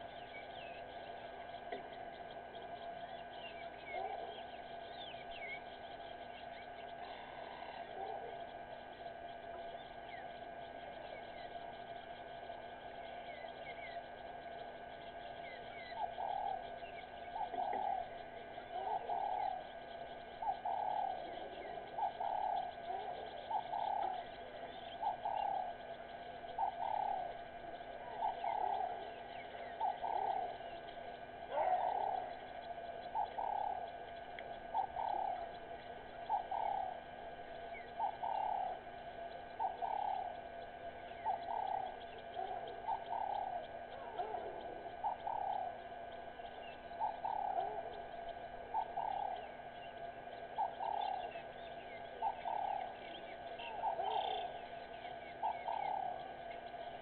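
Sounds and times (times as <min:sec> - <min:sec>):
dove cooing: 0:00.0 - 0:06.0, 0:06.8 - 0:08.7, 0:15.2 - 0:57.0
birds chirping: 0:00.0 - 0:57.0
steady background tone: 0:00.0 - 0:57.0.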